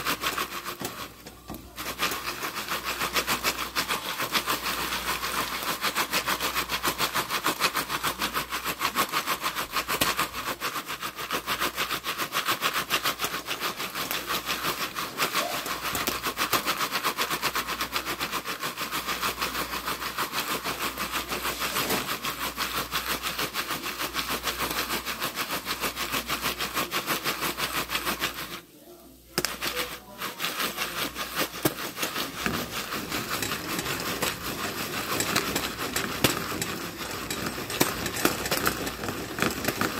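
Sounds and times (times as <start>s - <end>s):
pan rattling on burner: 0.0s - 28.6s, 29.4s - 39.9s
popcorn popping: 0.0s - 39.9s.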